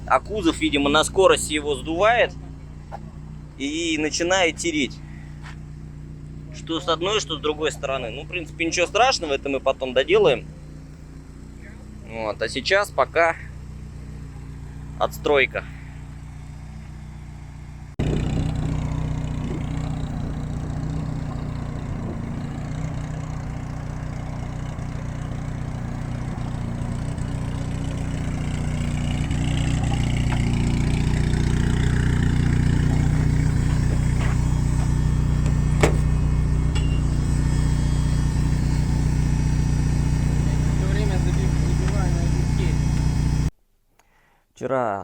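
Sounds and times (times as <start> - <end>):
car engine running: 0.0 - 43.5.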